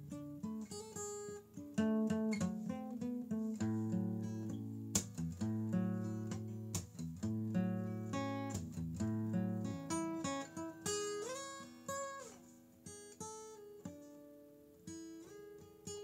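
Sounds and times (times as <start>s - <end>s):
fingerpicked acoustic guitar: 0.0s - 16.0s.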